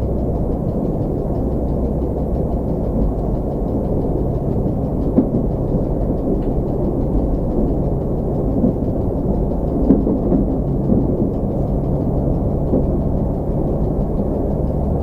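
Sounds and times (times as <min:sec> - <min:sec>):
railcar engine and wheels rumbling: 0:00.0 - 0:15.0.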